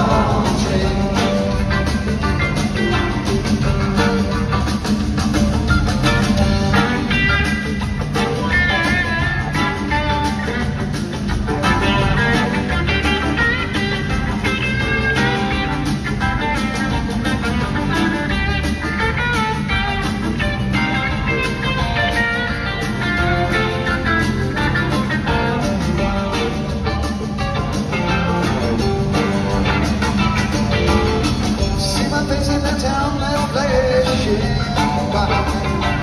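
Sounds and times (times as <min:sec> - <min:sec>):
drums and percussion: 0:00.0 - 0:36.0
electric guitar: 0:00.0 - 0:36.0
live rock band playing: 0:00.0 - 0:36.0.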